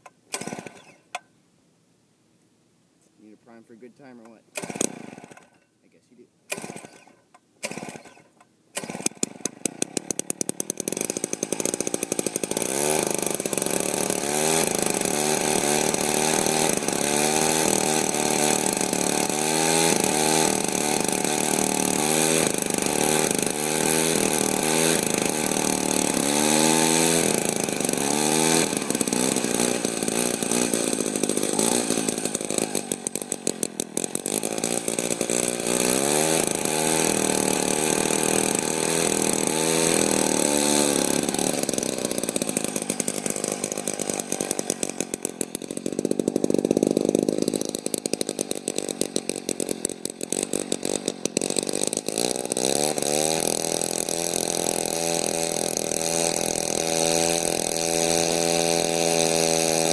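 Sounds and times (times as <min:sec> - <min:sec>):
pull-start engine revving: 0:00.0 - 0:01.2, 0:04.0 - 0:05.7, 0:06.5 - 0:59.9.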